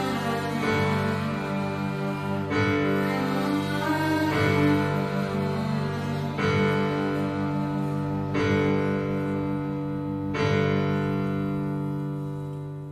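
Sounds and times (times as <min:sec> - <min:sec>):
slow piano chords: 0:00.0 - 0:12.9.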